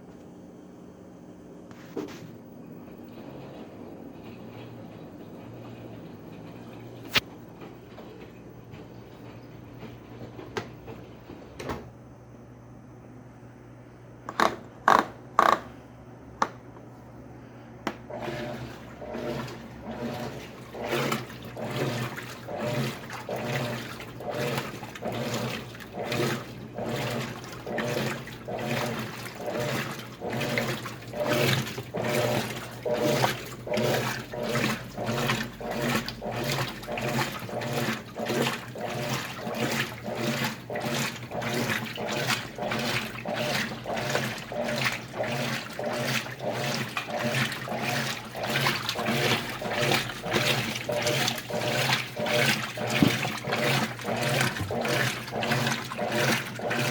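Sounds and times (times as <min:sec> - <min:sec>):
washing machine churning water: 0:01.7 - 0:12.2, 0:16.4 - 0:56.9.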